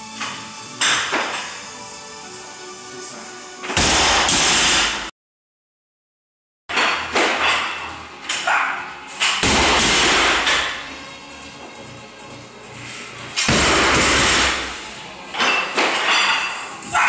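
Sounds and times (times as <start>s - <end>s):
loud background music: 0.0s - 5.1s, 6.8s - 17.0s.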